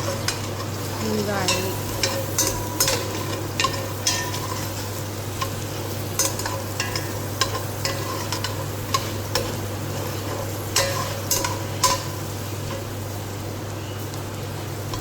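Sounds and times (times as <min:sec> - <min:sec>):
utensil scraping a pan: 0:00.0 - 0:12.9
food sizzling in a pan: 0:00.0 - 0:15.0.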